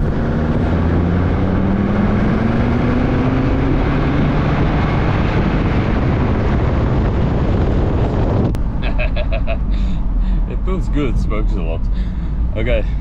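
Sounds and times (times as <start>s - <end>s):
wind rush: 0.0s - 12.5s
diesel engine accelerating hard: 0.0s - 13.0s
road noise: 0.0s - 13.0s.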